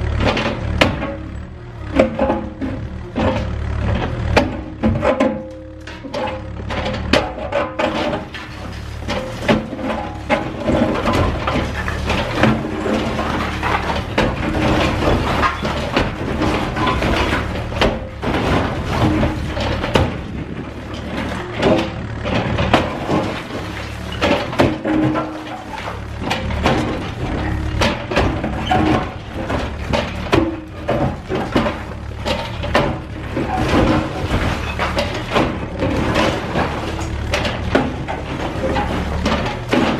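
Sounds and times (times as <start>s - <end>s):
concrete crunching and clanking: 0.0s - 39.9s
diesel engine running: 0.0s - 39.9s.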